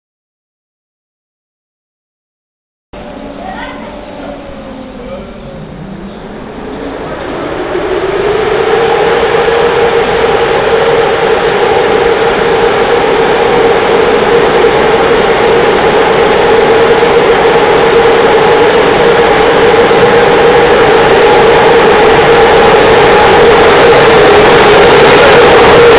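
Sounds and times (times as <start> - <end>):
electric locomotive droning hum: 3.0 - 25.9.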